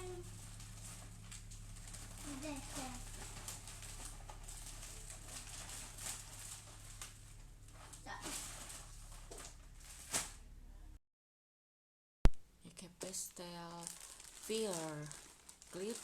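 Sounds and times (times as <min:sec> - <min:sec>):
clothing and packaging rustling: 0:00.0 - 0:10.5, 0:13.5 - 0:16.0
low steady hum: 0:00.0 - 0:11.0, 0:12.3 - 0:16.0.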